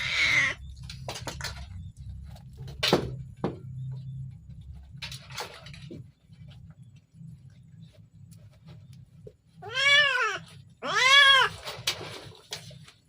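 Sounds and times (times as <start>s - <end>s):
low steady hum: 0.0s - 13.0s
knocks and clatters of handling: 0.6s - 9.5s, 11.3s - 13.0s.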